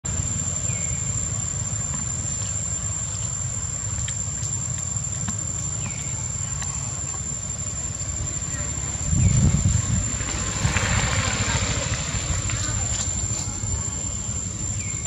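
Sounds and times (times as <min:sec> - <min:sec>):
high insect drone: 0:00.0 - 0:15.0
low rumble: 0:02.9 - 0:15.0.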